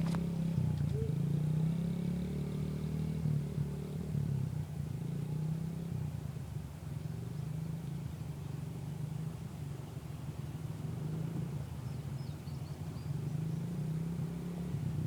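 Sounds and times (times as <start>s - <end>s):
small engine running at low revs: 0.0s - 15.0s.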